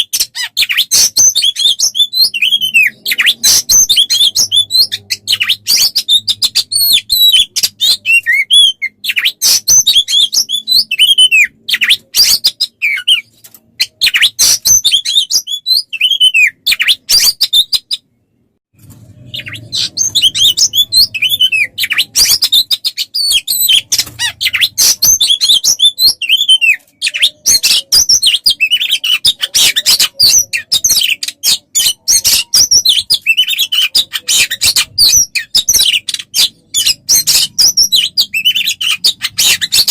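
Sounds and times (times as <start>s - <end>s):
songbird chirps trills and whistles: 0.0s - 18.5s, 19.2s - 39.9s.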